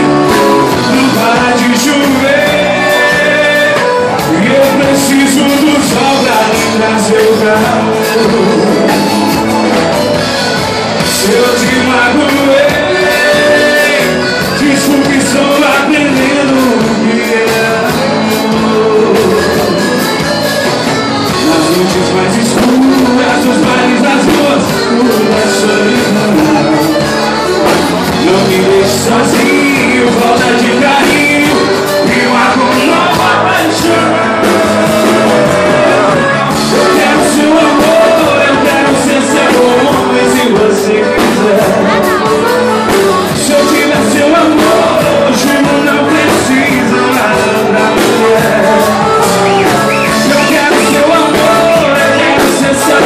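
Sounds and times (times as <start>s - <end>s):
live band playing: 0.0s - 53.0s
person singing: 0.0s - 53.0s.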